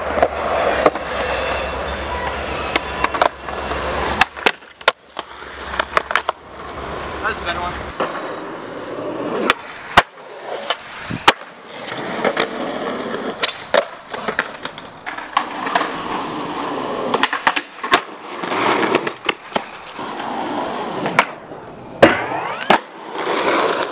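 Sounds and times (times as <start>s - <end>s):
skateboard clacks: 0.0s - 23.9s
skateboard wheels rolling on concrete: 0.0s - 23.9s.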